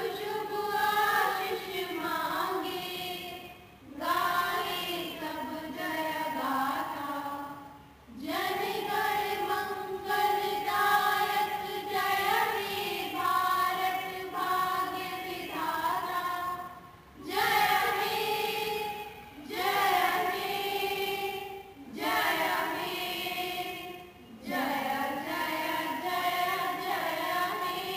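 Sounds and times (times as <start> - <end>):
children's choir singing: 0.0 - 27.9.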